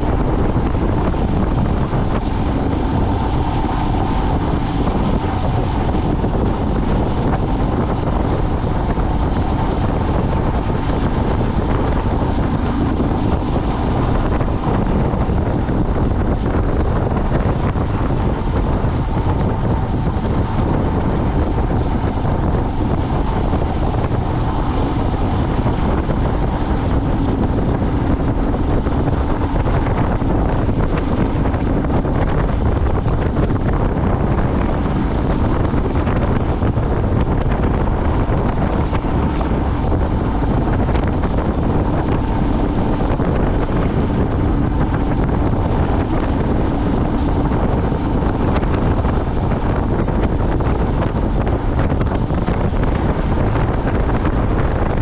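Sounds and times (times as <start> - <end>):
road noise: 0.0 - 55.0
vehicle engine drone: 0.0 - 55.0
wind buffeting microphone: 0.0 - 55.0.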